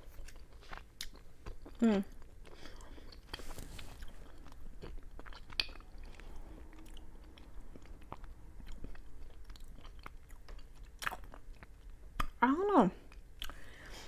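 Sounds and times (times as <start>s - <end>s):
chewing: 0.0s - 12.4s.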